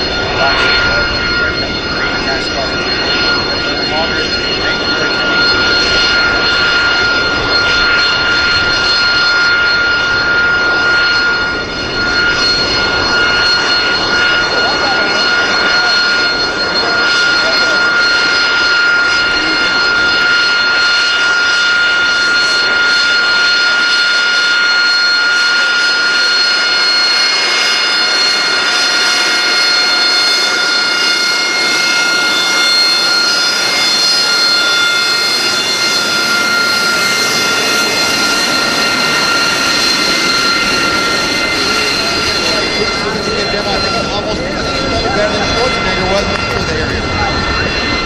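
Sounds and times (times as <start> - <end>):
jet engine running with whine: 0.0 - 48.0.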